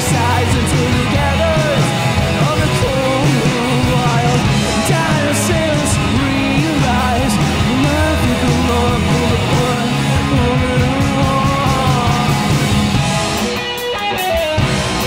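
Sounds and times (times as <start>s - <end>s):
lead vocal singing: 0.0s - 12.9s
bass guitar: 0.0s - 15.0s
drums: 0.0s - 15.0s
electric guitar: 0.0s - 15.0s.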